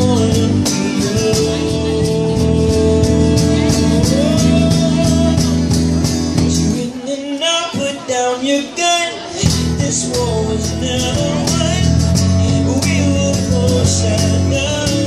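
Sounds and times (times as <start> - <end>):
bass guitar: 0.0 - 7.0, 9.3 - 15.0
man singing: 0.0 - 15.0
strummed acoustic guitars: 0.0 - 15.0.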